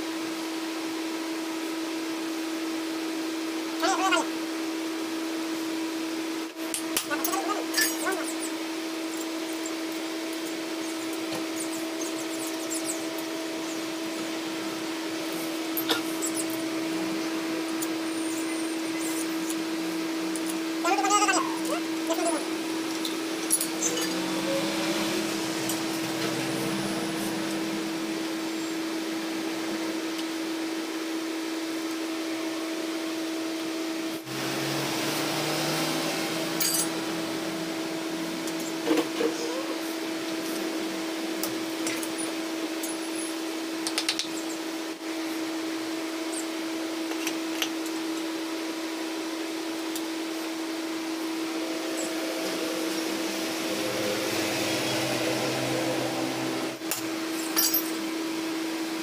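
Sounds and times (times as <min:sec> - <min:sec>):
whirring machine hum: 0:00.0 - 0:59.0.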